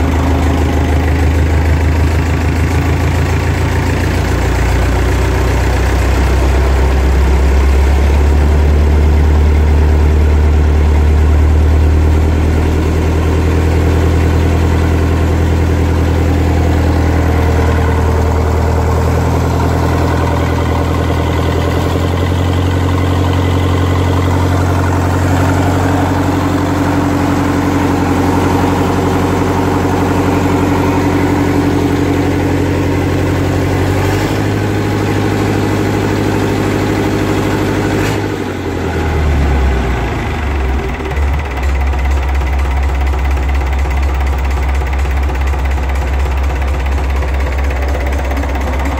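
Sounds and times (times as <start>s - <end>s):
marine diesel engine running: 0.0s - 48.9s.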